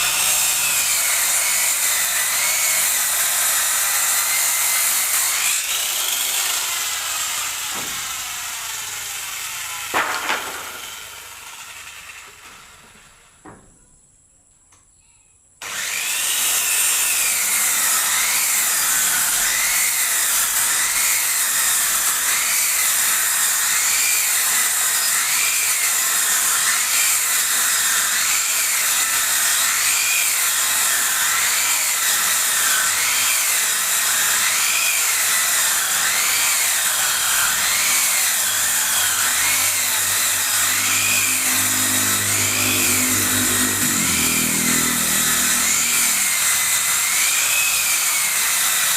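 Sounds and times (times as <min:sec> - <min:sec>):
circular saw ripping wood: 0:00.0 - 0:13.4, 0:15.6 - 0:48.9.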